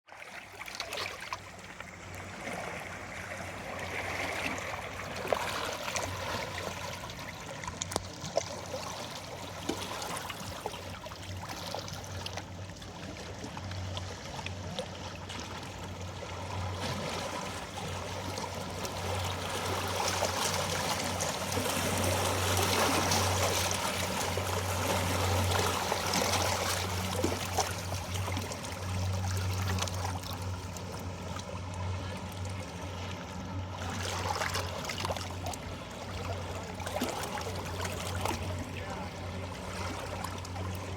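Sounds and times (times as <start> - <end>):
small waves lapping on shore: 0.0 - 40.9.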